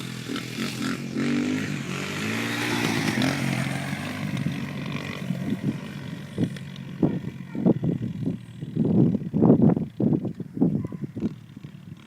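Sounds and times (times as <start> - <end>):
dirt bike engine revving: 0.0 - 10.2.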